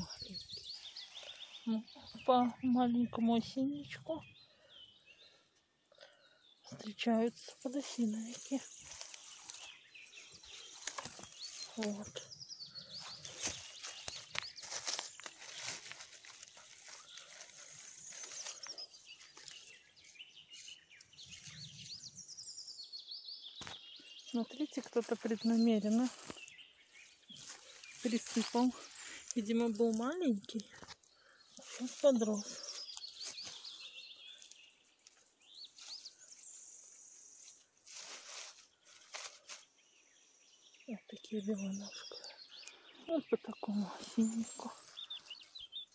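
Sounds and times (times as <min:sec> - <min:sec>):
rustle of dry leaves and grass: 0:00.0 - 0:02.0, 0:07.0 - 0:22.6, 0:23.6 - 0:40.0, 0:41.4 - 0:45.9
small bird chirping: 0:00.0 - 0:45.9.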